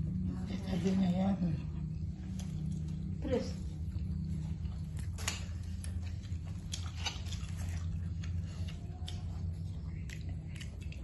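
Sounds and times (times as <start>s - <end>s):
low steady hum: 0.0s - 11.0s
chewing: 0.1s - 11.0s.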